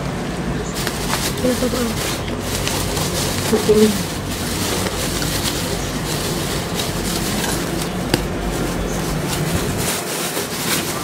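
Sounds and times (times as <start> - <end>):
plastic wrapping rustling: 0.7 - 11.0.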